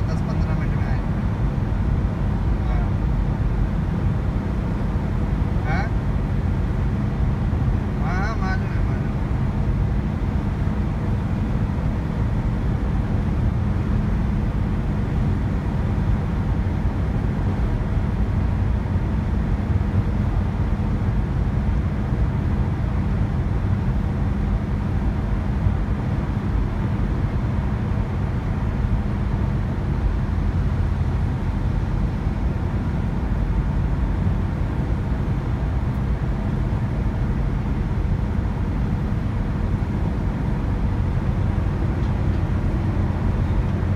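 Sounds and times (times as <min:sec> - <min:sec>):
car cabin road rumble: 0:00.0 - 0:43.9
constant hum: 0:00.0 - 0:43.9.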